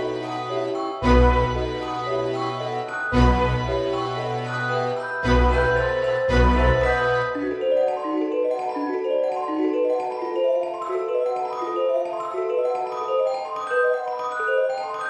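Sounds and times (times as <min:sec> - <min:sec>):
light mallet percussion tune: 0:00.0 - 0:15.0.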